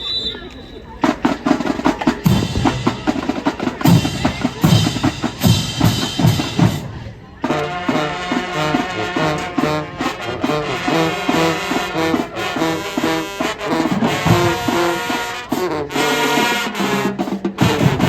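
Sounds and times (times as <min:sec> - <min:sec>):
marching percussion: 0:01.0 - 0:18.0
brass playing punchy notes: 0:01.2 - 0:18.0.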